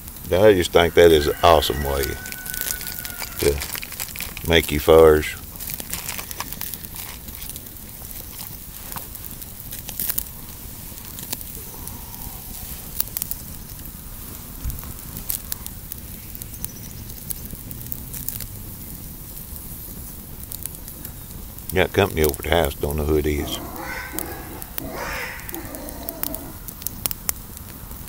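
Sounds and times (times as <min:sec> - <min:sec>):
wood fire crackling: 0:00.0 - 0:28.0
sharp pops from fire: 0:02.2 - 0:04.7, 0:05.4 - 0:22.4, 0:23.7 - 0:28.0.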